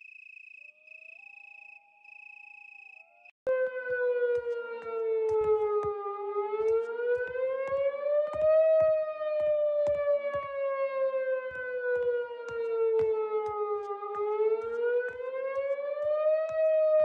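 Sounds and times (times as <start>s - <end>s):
tornado warning siren wailing: 0.9s - 17.0s.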